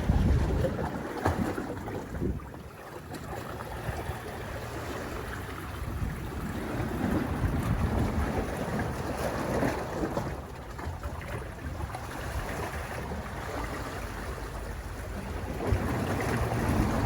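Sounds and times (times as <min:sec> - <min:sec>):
waves washing against rocks: 0:00.0 - 0:17.0
wind buffeting microphone: 0:00.0 - 0:17.0.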